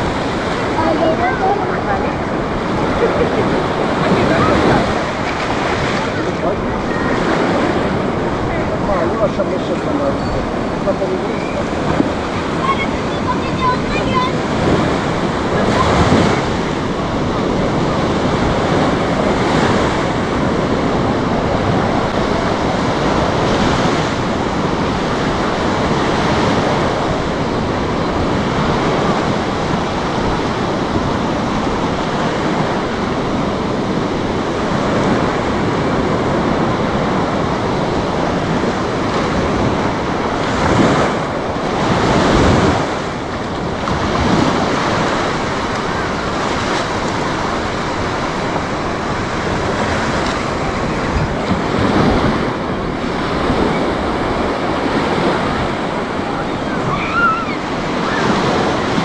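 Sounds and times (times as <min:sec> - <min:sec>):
waves breaking on beach: 0:00.0 - 0:59.0
wind buffeting microphone: 0:00.0 - 0:59.0.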